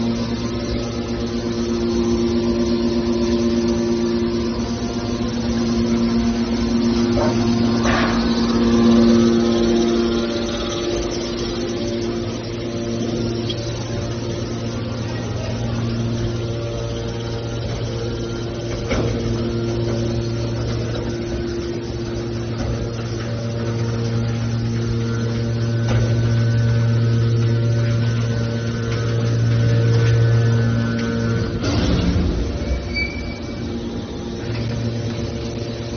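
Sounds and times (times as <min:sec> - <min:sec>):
hydraulic baler motor hum: 0:00.0 - 0:35.9.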